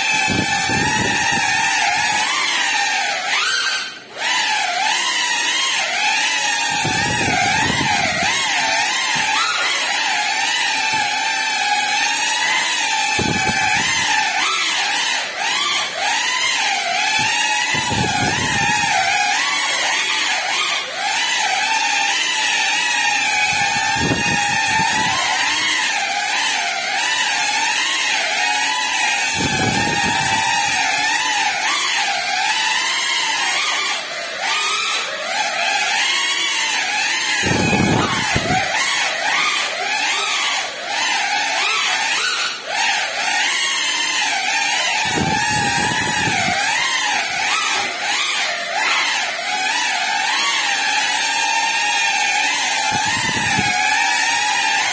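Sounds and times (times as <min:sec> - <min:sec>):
drone motors whining: 0:00.0 - 0:54.9.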